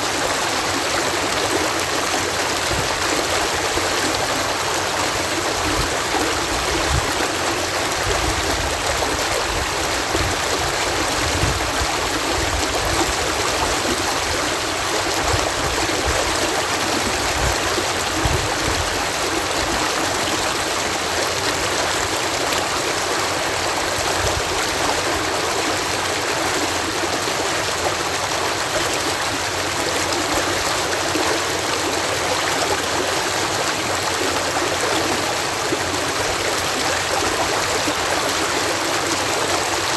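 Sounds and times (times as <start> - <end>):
water rushing over lock: 0.0 - 39.9.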